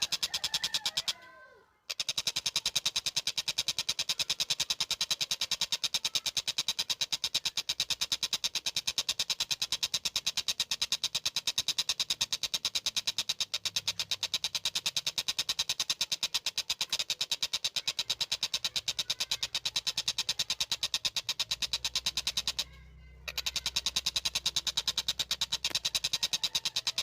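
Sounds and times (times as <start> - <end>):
kingfisher rapid chatter: 0.0 - 1.2, 1.8 - 27.0.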